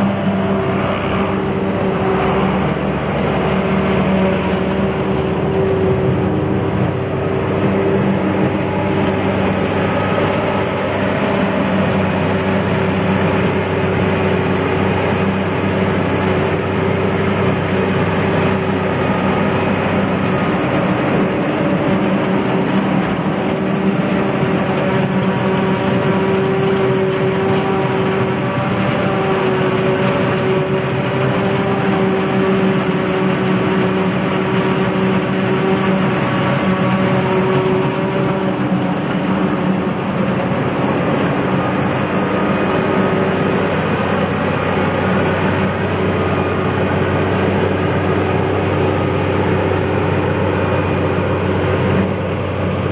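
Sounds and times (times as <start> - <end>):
forage harvester droning: 0.0 - 52.9
machine whine: 0.0 - 52.9.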